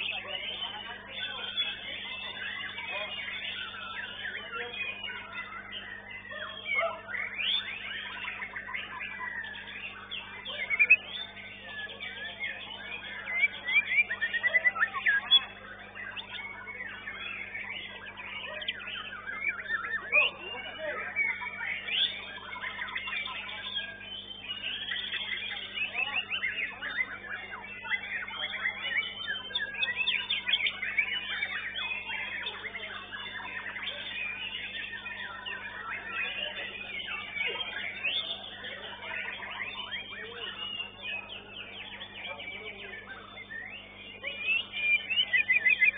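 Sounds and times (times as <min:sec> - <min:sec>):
caged songbirds singing: 0:00.0 - 0:45.9.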